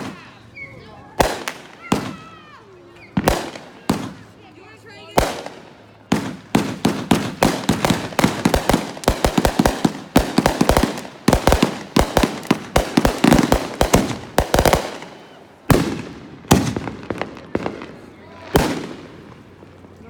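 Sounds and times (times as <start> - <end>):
fireworks banging: 0.0 - 0.5, 1.1 - 20.0.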